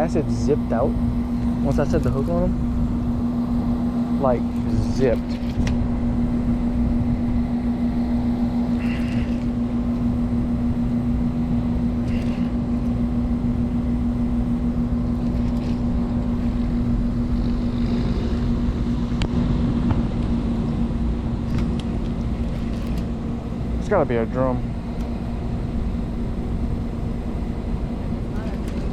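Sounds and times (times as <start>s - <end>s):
low rumble: 0.0s - 28.9s
steady motor hum: 0.0s - 28.9s.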